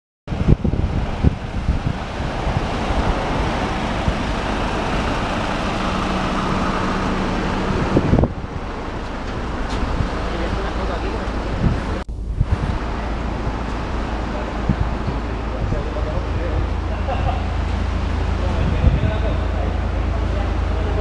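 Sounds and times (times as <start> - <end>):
wind buffeting microphone: 0.3 - 21.0.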